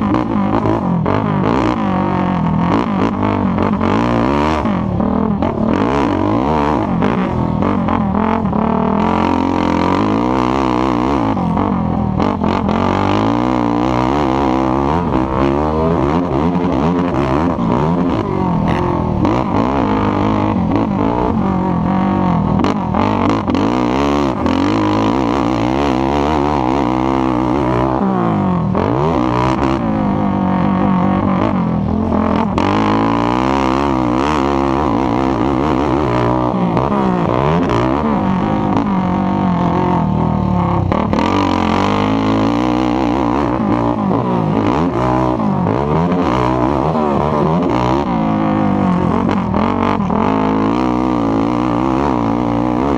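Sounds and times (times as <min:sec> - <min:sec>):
atv engines revving: 0:00.0 - 0:52.9.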